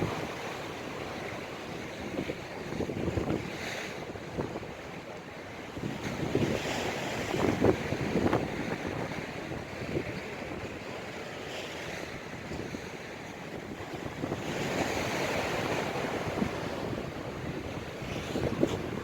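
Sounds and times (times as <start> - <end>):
wind noise on microphone: 0.0 - 4.9, 5.7 - 11.1, 11.7 - 19.0
storm waves breaking on shore: 0.0 - 19.0.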